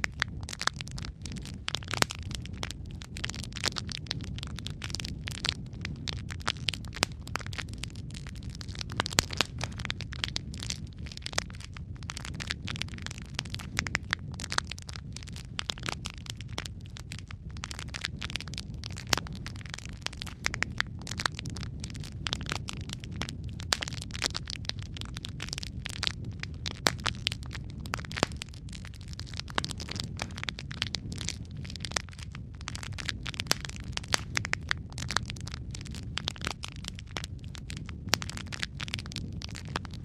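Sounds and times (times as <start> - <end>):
fire pops and snaps: 0.0 - 40.0
flames rumbling in fireplace: 0.0 - 40.0.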